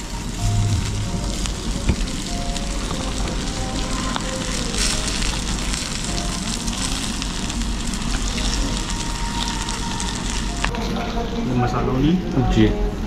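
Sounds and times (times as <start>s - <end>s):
food sizzling on hot plate: 0.0s - 10.8s
faint background music: 0.0s - 13.0s.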